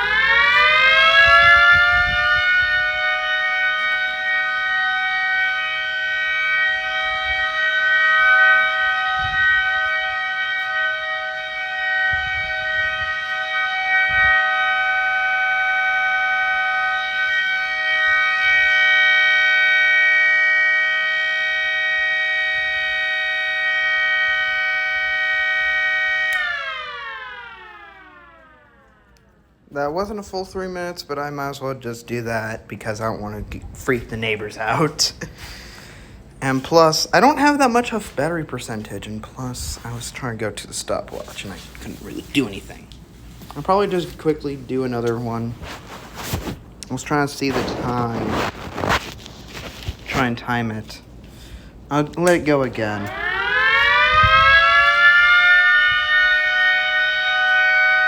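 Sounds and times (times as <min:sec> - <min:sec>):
siren steady alert tone: 0:00.0 - 0:30.4, 0:33.2 - 0:35.7, 0:36.3 - 0:58.0.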